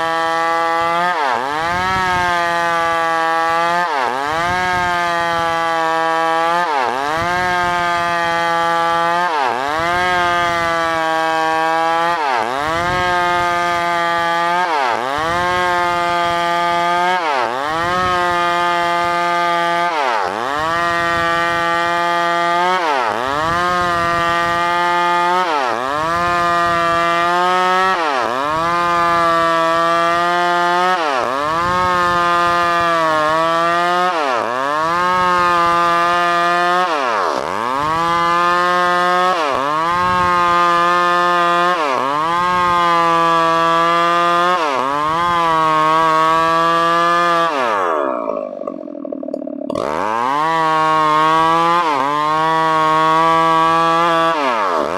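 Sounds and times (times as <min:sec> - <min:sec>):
chainsaw sawing wood: 0:00.0 - 0:54.9.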